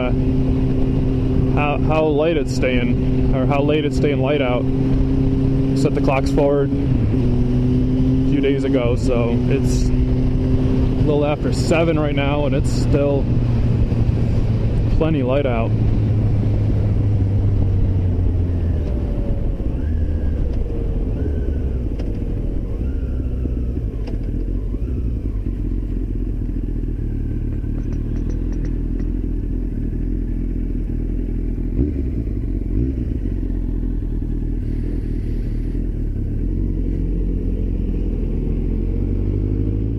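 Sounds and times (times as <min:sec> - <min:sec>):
motorcycle engine slowing down: 0:00.0 - 0:39.9.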